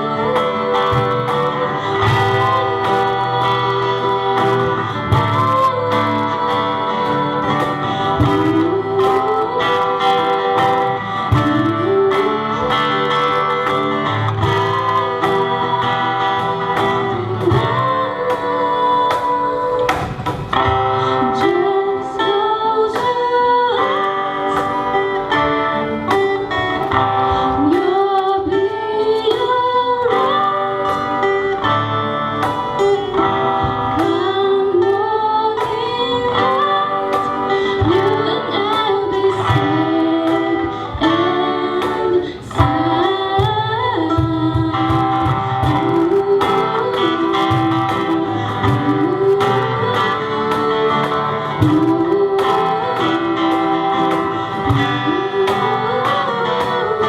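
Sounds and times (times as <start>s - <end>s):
live band playing: 0.0s - 57.0s
person singing: 0.0s - 57.0s.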